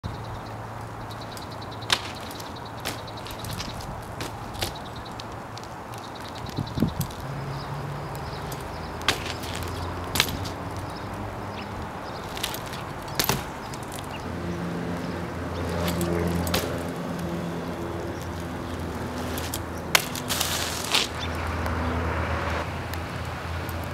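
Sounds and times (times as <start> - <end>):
bike parts clicking and knocking: 0.8 - 14.3, 15.0 - 21.7.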